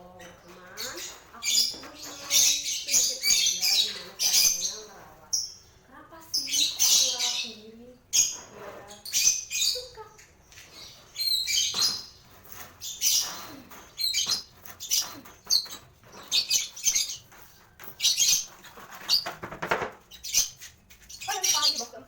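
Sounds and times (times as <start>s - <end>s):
lovebirds chirping and squawking: 0.0s - 22.0s.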